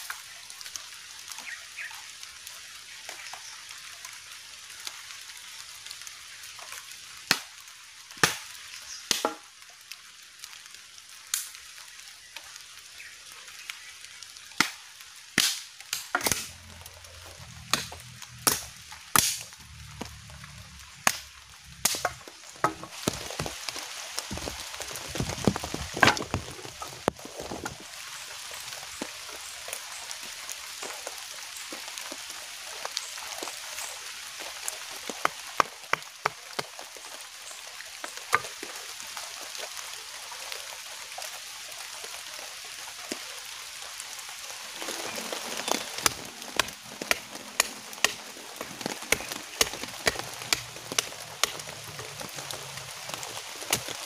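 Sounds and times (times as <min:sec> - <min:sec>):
rain hiss: 0:00.0 - 0:54.0
raindrops ticking on tarp: 0:00.0 - 0:54.0.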